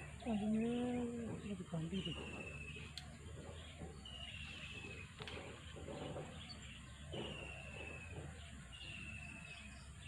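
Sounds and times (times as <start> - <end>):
faint background noise: 0.0 - 10.0.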